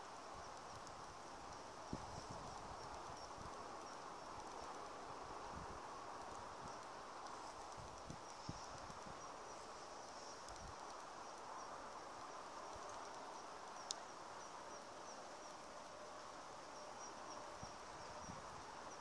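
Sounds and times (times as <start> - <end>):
insects chirring: 0.0 - 19.0
soft even hiss: 0.0 - 19.0.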